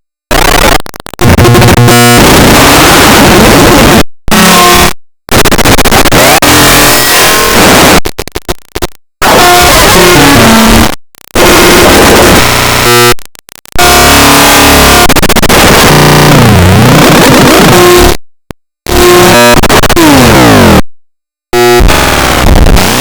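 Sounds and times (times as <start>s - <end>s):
distorted cartoon sound effect: 0.3s - 8.4s, 9.2s - 18.2s, 18.9s - 20.8s, 21.6s - 23.0s.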